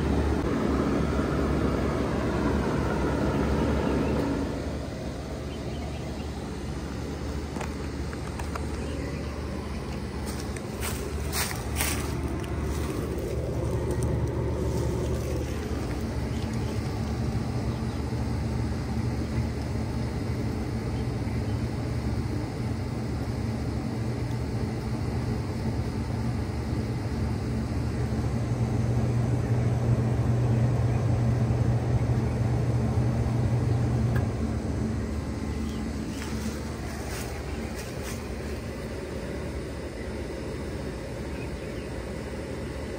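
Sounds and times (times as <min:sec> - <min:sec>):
compressor hum: 0:00.0 - 0:42.9
outdoor fan rushing: 0:00.0 - 0:42.9.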